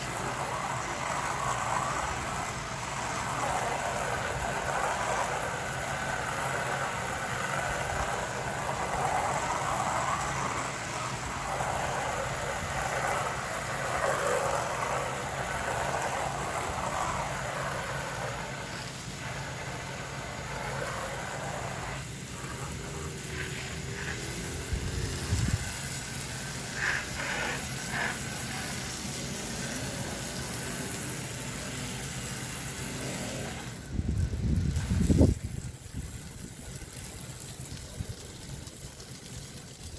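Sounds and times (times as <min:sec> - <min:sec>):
steady low hum: 0:00.0 - 0:38.2
hose sprayer hissing: 0:00.0 - 0:39.9.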